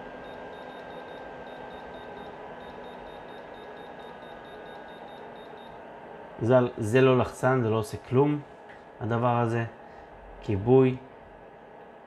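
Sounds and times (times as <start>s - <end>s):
fan running: 0.0s - 12.0s.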